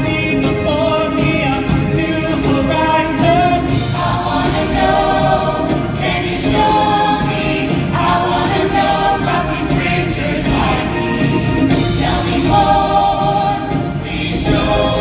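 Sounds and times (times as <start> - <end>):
musical accompaniment: 0.0 - 15.0
choir singing sustained notes: 2.2 - 15.0.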